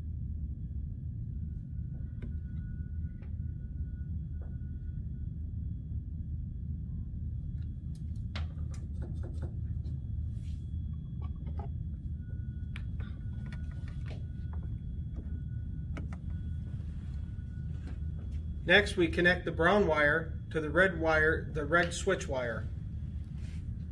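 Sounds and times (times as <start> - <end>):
low room hum: 0.0 - 23.9.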